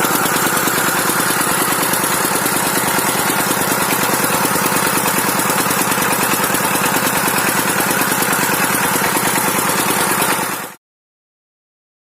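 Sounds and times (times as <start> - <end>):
diesel engine running steadily: 0.0 - 10.8.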